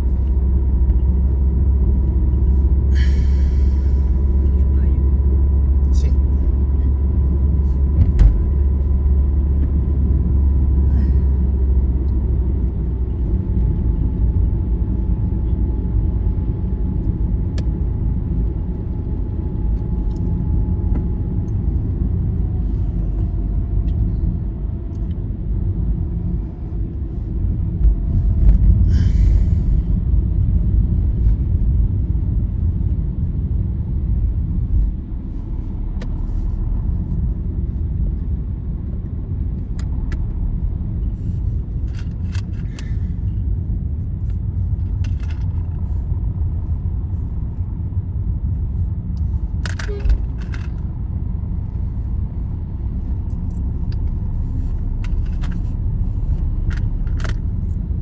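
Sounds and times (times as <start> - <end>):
vehicle road rumble: 0.0 - 58.0.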